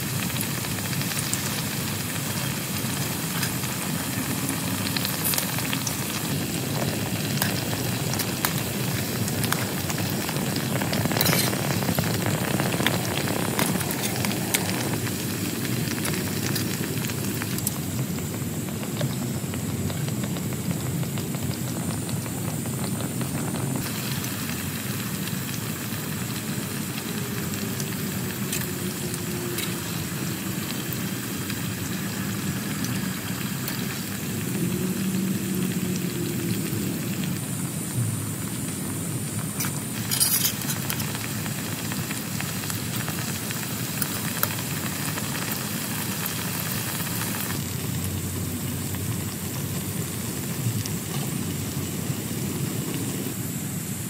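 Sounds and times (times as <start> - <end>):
heavy rain on a tent: 0.0 - 54.0.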